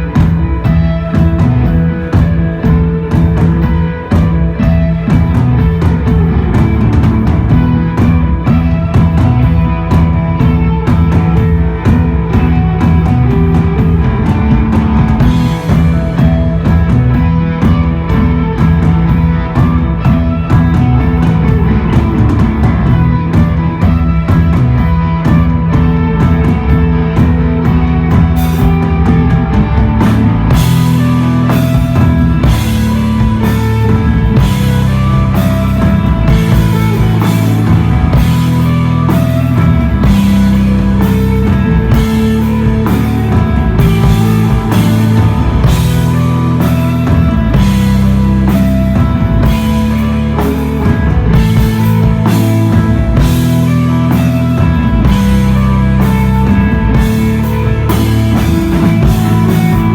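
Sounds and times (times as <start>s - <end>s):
bass guitar notes: 0.0s - 59.9s
drum kit beat: 0.0s - 59.9s
electric guitar: 0.0s - 59.9s.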